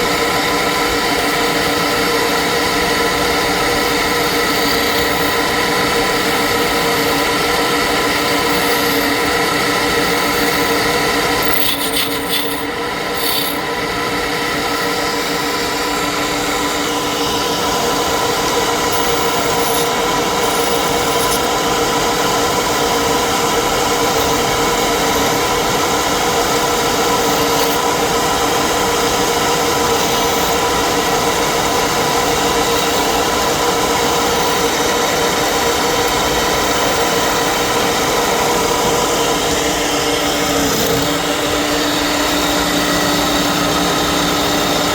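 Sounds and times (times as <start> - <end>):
wood lathe motor hum: 0.0 - 44.9
tool rasping against spinning wood: 3.1 - 16.6, 17.2 - 44.9.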